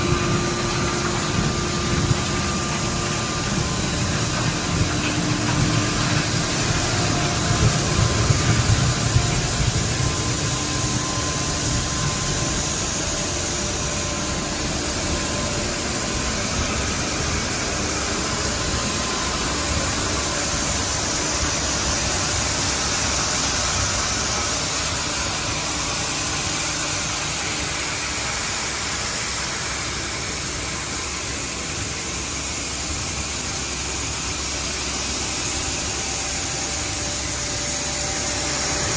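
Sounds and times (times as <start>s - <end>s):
machine noise: 0.0s - 38.9s.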